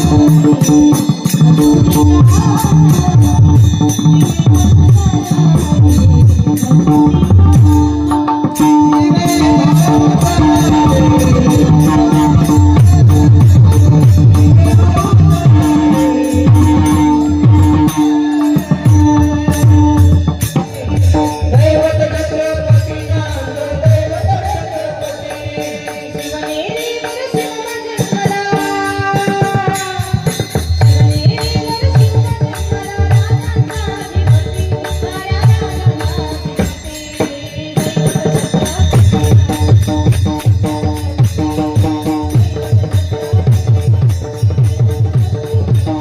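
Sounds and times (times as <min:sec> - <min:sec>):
drum beating steady rhythm: 0:00.0 - 0:46.0
jingling hand cymbals: 0:00.0 - 0:46.0.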